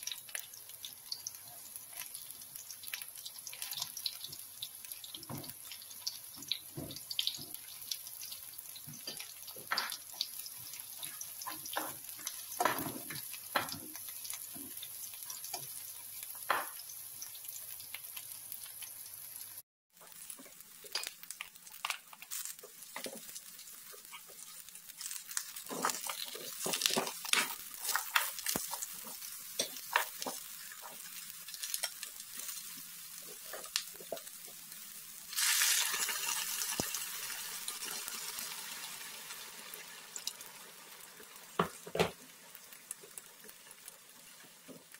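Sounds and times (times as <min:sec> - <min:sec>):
vegetables sizzling in oil: 0:00.0 - 0:44.9.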